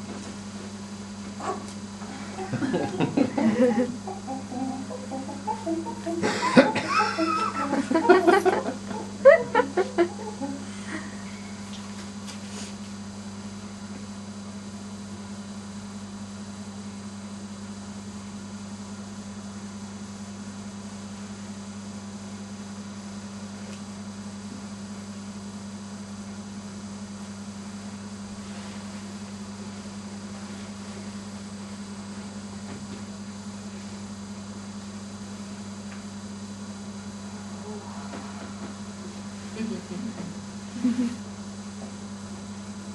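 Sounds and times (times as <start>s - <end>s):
electrical mains hum: 0.0s - 42.9s.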